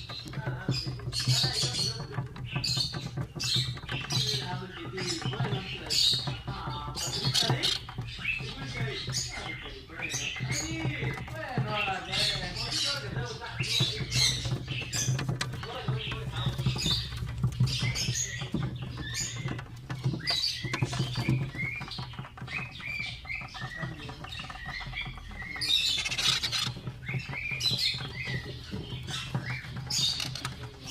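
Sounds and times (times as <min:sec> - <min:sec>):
parrots squeaky chirping: 0:00.0 - 0:30.9.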